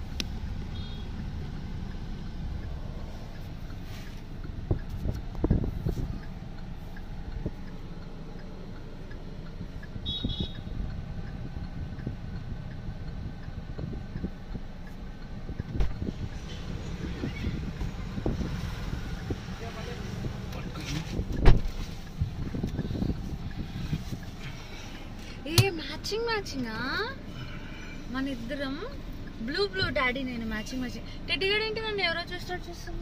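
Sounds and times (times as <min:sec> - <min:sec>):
car engine rumble in cabin: 0:00.0 - 0:33.0.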